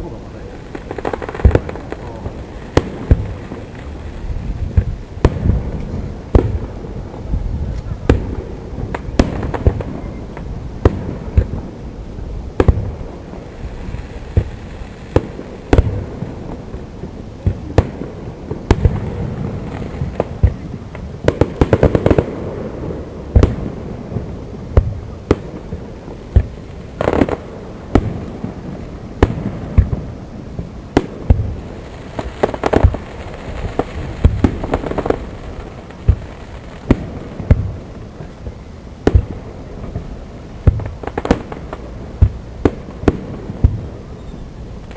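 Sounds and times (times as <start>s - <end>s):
fireworks booming: 0.0s - 44.9s
rapid firework volleys: 0.0s - 44.9s.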